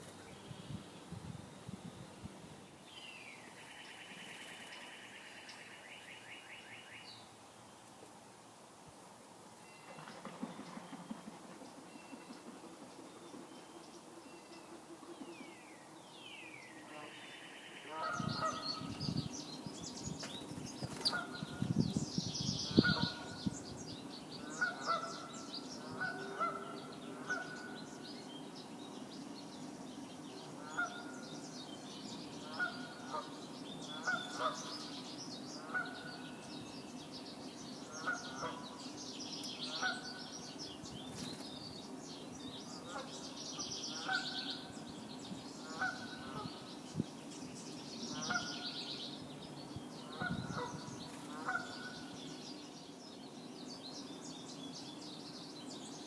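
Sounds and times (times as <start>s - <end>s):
small birds chirping: 9.5s - 56.0s.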